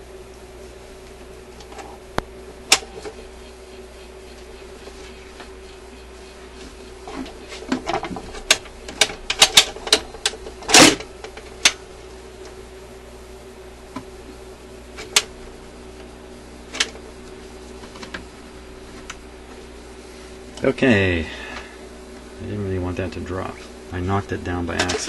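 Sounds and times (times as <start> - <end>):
record player motor humming: 0.0 - 25.0.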